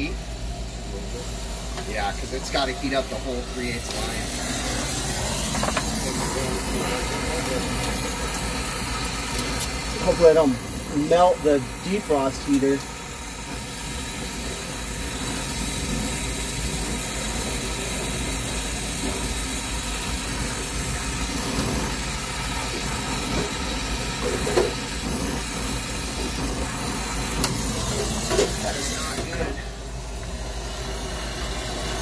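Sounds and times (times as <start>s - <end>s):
torch flame hissing: 0.0s - 32.0s.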